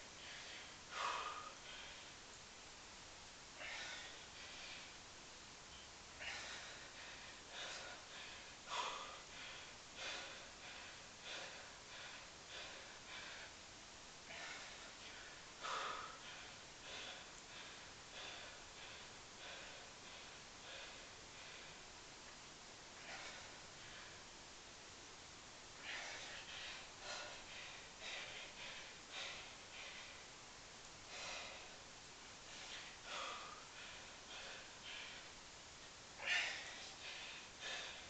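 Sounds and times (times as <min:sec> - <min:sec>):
man breathing hard: 0:00.0 - 0:02.4, 0:03.4 - 0:24.4, 0:25.2 - 0:38.0.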